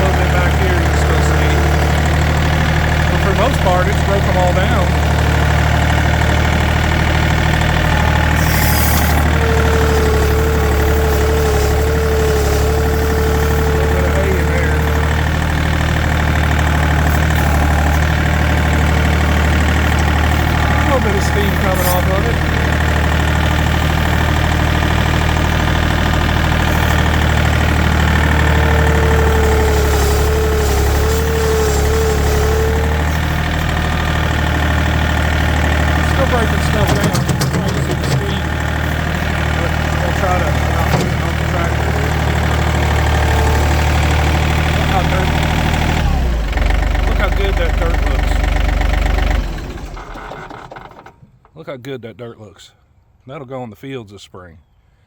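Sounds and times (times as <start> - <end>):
tractor engine running: 0.0 - 51.6.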